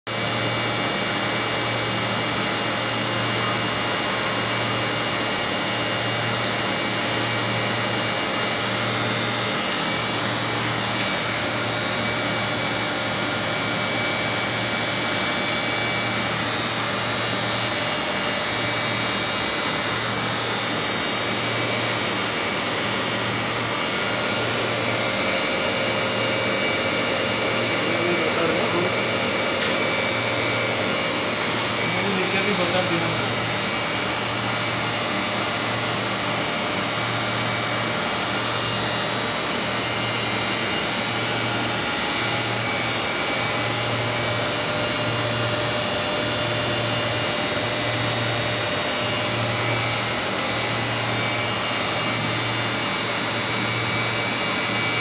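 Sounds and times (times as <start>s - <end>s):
ice cream machine whirring: 0.1s - 55.0s.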